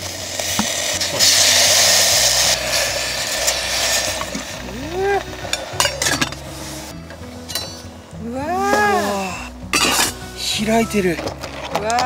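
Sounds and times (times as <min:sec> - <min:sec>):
clams hissing in hot pot: 0:00.0 - 0:10.5
background music with bass: 0:00.0 - 0:12.0.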